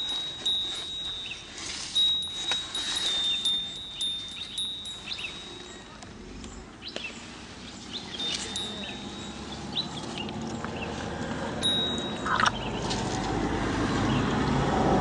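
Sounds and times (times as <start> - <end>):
birds chirping: 0.0 - 13.0
outdoor background noise: 0.0 - 15.0.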